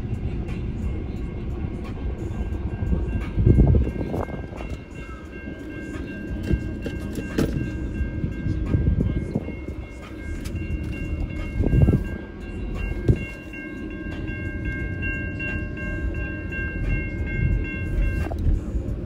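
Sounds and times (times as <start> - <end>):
crossing warning bell ringing: 0.0 - 19.0
freight train rumbling: 0.0 - 19.0.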